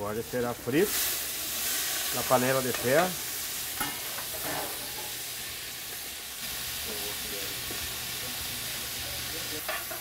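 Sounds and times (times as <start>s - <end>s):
meat sizzling in a pan: 0.0s - 10.0s.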